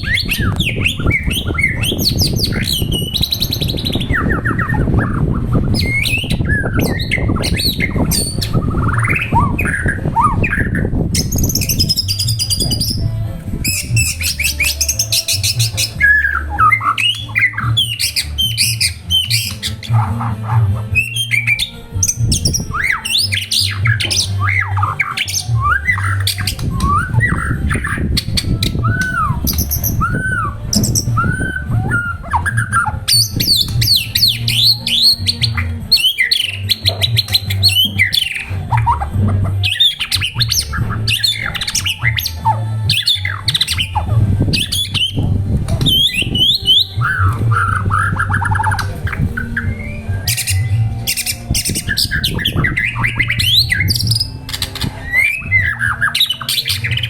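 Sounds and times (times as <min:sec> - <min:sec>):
bird singing whistles and chatter: 0:00.0 - 0:57.0.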